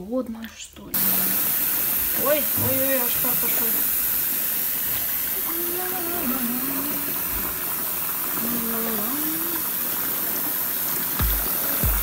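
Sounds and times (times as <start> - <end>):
water pouring into bathtub: 0.9 - 12.0.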